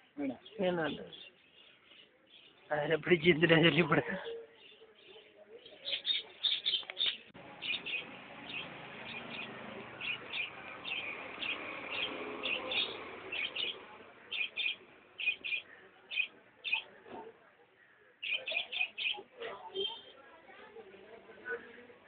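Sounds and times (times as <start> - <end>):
small birds chirping: 0.0 - 17.0, 17.8 - 20.2.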